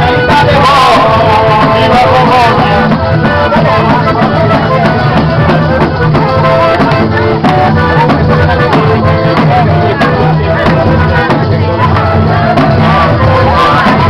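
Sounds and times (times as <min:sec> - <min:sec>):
fast folk dance music: 0:00.0 - 0:14.0.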